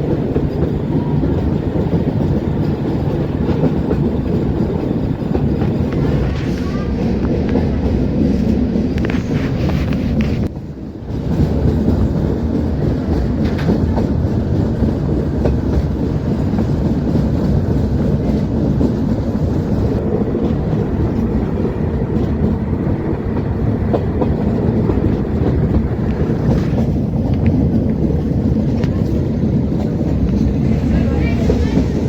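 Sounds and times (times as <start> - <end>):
train rumble on track: 0.0 - 32.0.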